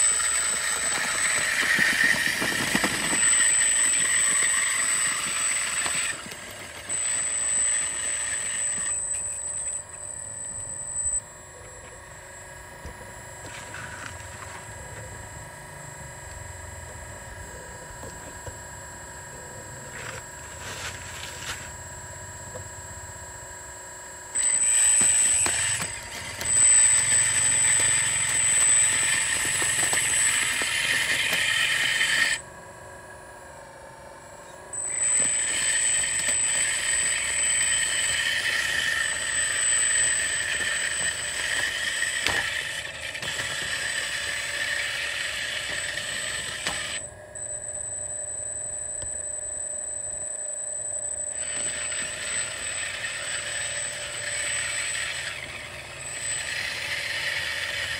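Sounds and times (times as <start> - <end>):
model excavator pump whining: 0.0 - 57.9.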